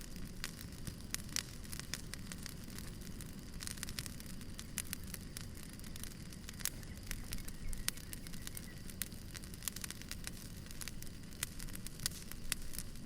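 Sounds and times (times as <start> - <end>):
fire low rumble: 0.0 - 13.0
firewood crackling and popping: 0.0 - 13.0.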